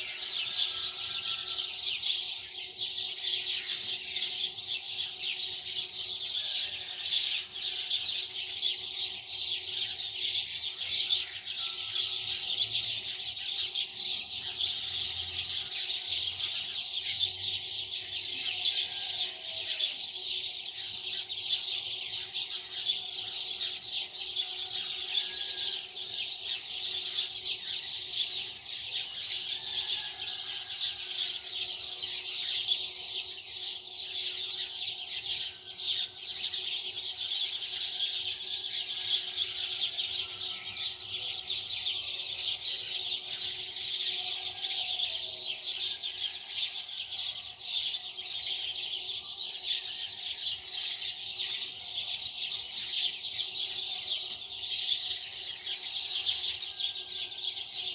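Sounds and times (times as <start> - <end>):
many birds chirping: 0.0 - 57.9.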